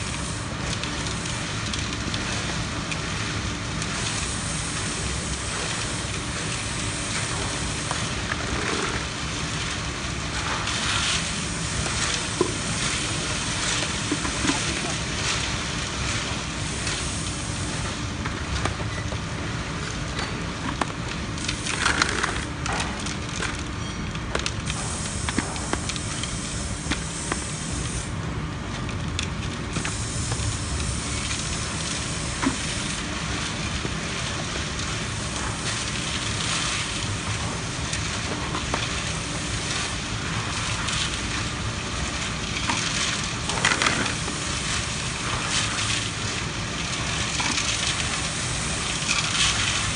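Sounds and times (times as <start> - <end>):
concrete mixer drum churning: 0.0 - 49.9.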